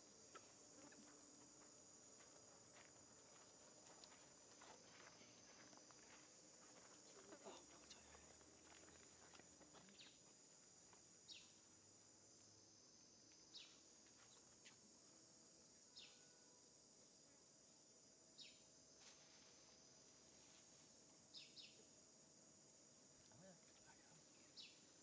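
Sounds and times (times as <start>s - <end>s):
high insect buzz: 0.0s - 25.0s.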